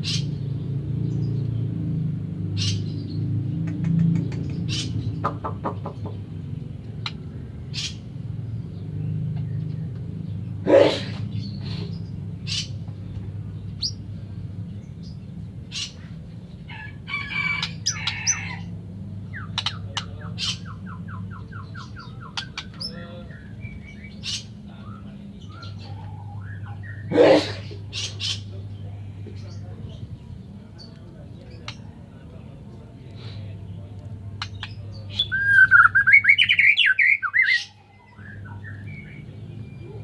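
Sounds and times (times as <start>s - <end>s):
songbird calling: 0.0s - 1.7s, 2.5s - 32.0s, 33.6s - 40.0s.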